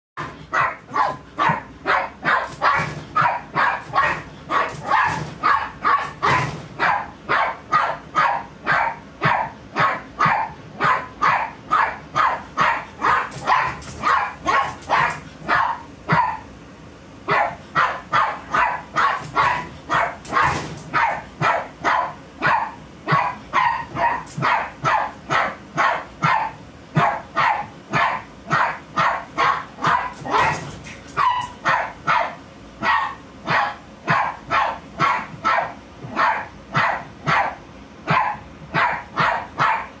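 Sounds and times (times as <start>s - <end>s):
small dog barking: 0.2s - 16.5s, 17.3s - 40.0s.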